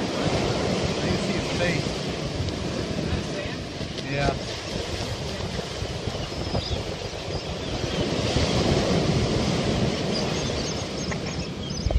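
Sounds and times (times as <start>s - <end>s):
surf breaking on beach: 0.0s - 11.6s
wind buffeting microphone: 0.0s - 11.9s.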